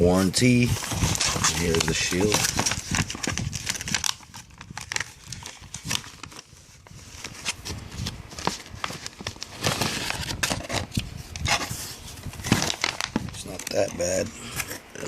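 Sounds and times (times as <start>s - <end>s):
plastic crinkling: 0.6s - 14.8s.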